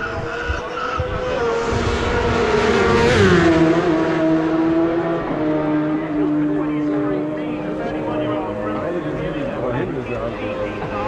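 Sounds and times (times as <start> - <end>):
racing motorcycle passing: 0.0 - 11.0.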